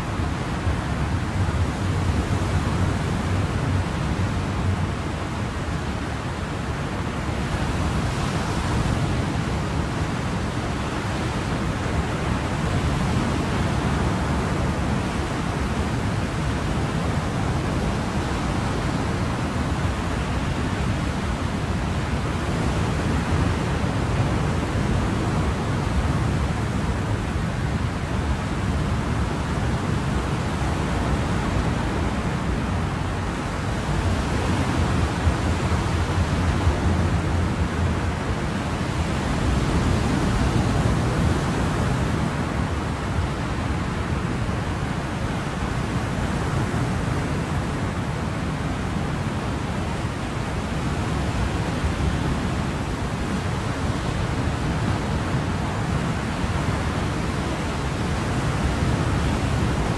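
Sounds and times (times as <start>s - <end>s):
ocean waves washing ashore: 0.0s - 59.9s.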